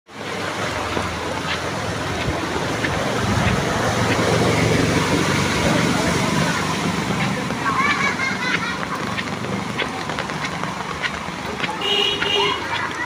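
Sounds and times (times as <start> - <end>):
heavy rain: 0.1 - 13.0.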